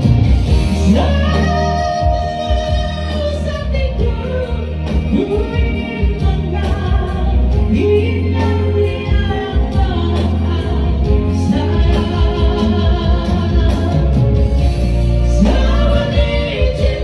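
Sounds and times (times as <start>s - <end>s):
electronic keyboard with bass line: 0.0s - 17.0s
male vocal trio singing: 0.6s - 17.0s.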